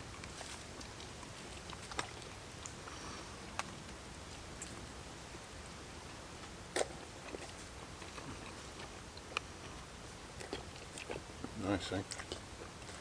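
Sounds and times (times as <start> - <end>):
chewing food: 0.0 - 4.9, 6.0 - 13.0.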